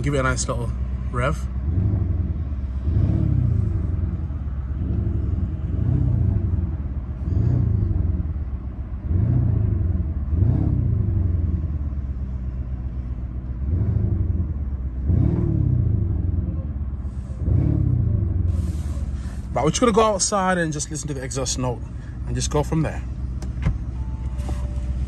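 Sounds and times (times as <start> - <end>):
car engine idling: 0.0 - 25.0
engine throttle blips: 0.0 - 25.0.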